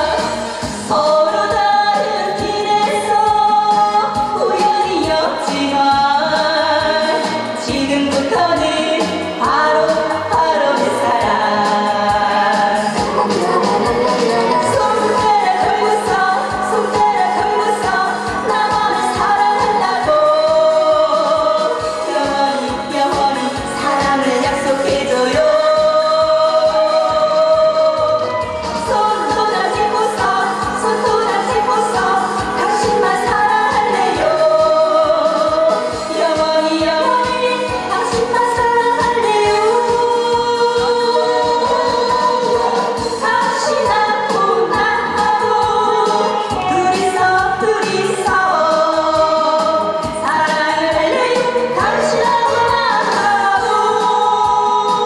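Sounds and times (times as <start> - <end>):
backing track with steady beat: 0.0 - 55.0
woman singing into microphone: 0.0 - 55.0.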